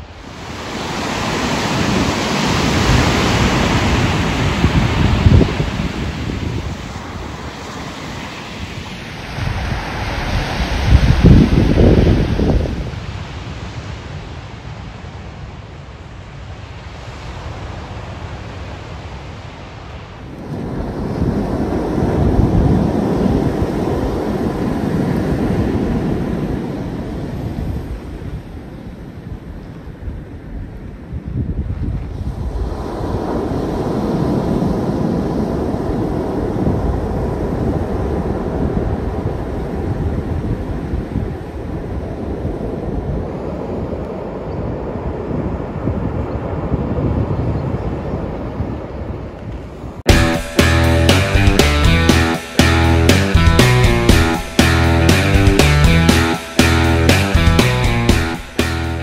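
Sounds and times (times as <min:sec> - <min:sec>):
ocean surf washing onto beach: 0:00.0 - 0:29.2, 0:32.3 - 0:45.8, 0:50.1 - 0:59.0
wind rumble on microphone: 0:00.0 - 0:50.0.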